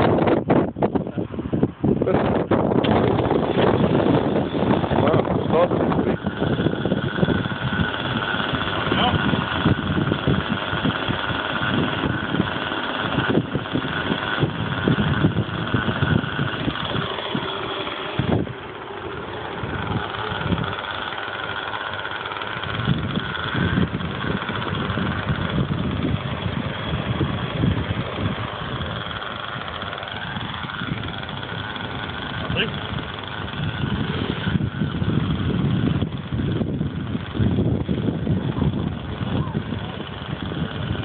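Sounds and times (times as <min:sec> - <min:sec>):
model helicopter engine whine: 0:00.0 - 0:41.0
wind buffeting microphone: 0:00.0 - 0:41.0.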